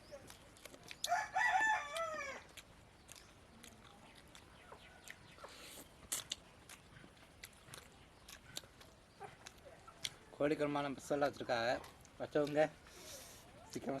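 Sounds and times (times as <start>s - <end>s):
people eating and chewing: 0.0s - 14.0s.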